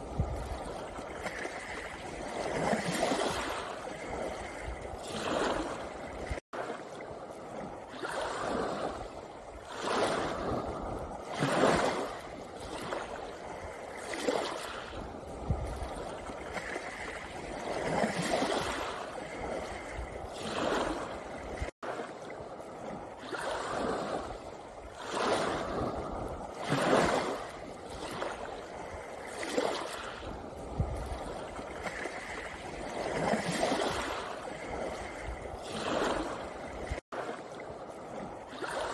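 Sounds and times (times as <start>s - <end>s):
sea waves washing over pebbles: 0.0s - 38.9s.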